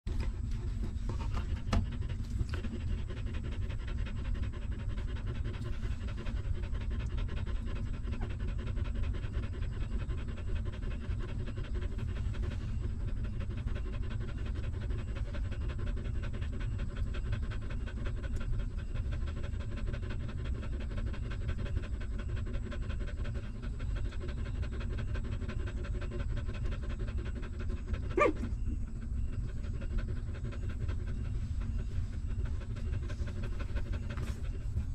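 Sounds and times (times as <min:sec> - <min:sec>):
dog panting rapidly: 0:00.1 - 0:34.9.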